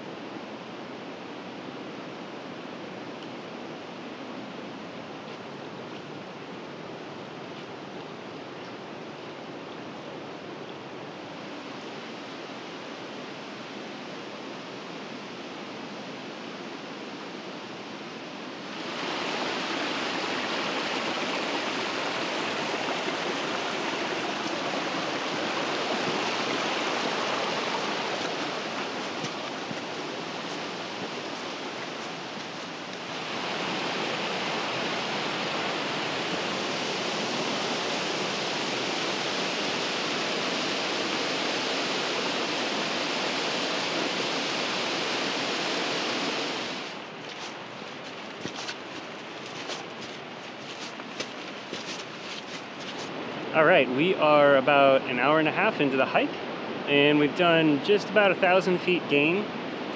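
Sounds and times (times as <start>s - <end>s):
running water rushing: 10.8s - 59.9s.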